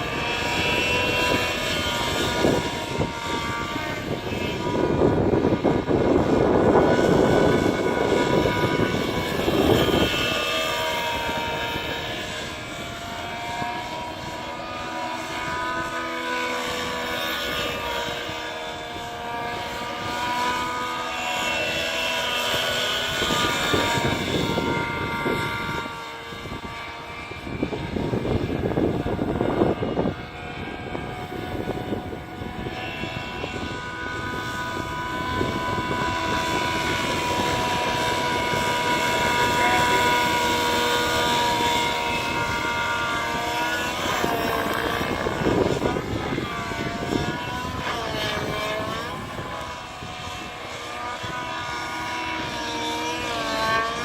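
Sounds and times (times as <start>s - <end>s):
rc helicopter engine whine: 0.0s - 54.0s.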